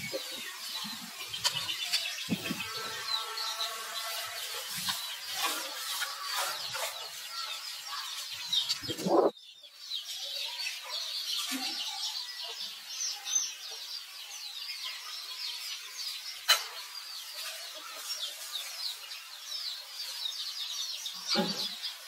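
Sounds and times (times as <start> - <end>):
birds twittering: 0.0 - 22.0.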